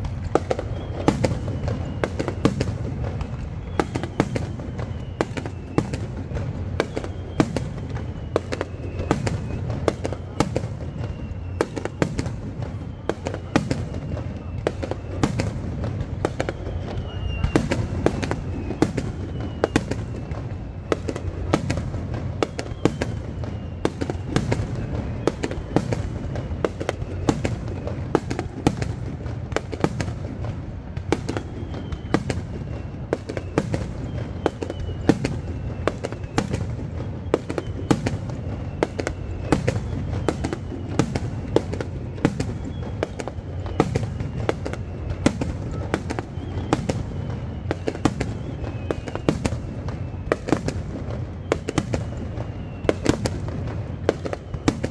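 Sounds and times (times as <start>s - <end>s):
fireworks bursting: 0.0s - 54.9s
fireworks whistling: 0.0s - 54.9s.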